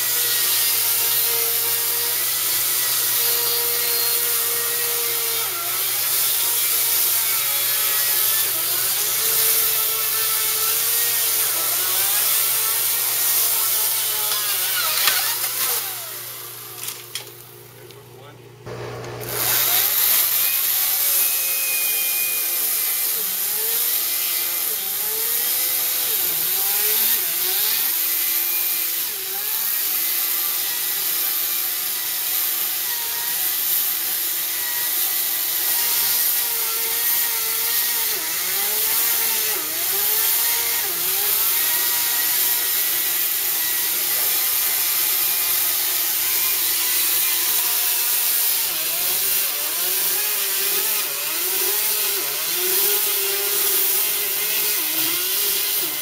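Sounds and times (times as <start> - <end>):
electric chainsaw cutting wood: 0.0 - 17.5, 18.7 - 56.0.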